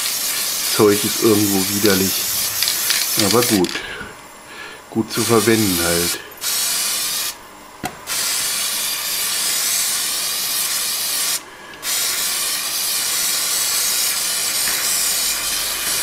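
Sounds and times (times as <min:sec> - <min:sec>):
aerosol can hissing: 0:00.0 - 0:03.8, 0:05.2 - 0:07.4, 0:08.1 - 0:16.0.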